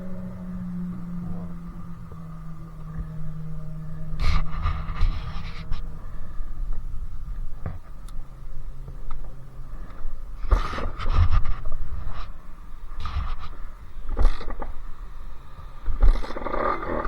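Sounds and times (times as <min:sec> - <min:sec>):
two-stroke engine running: 0:00.0 - 0:12.0, 0:12.7 - 0:17.0.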